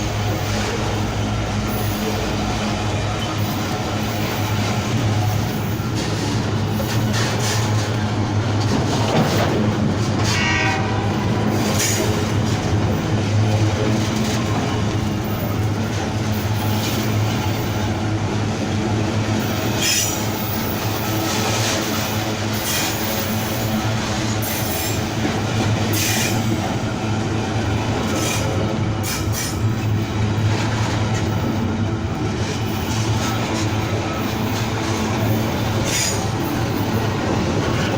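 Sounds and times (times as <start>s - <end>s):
train wheels rumbling on rails: 0.0s - 37.9s.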